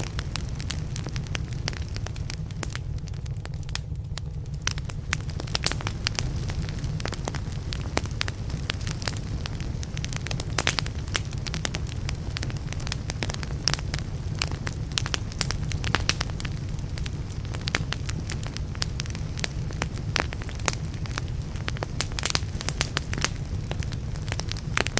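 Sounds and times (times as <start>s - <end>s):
low fire rumble: 0.0s - 24.9s
wood fire crackling: 0.0s - 24.9s.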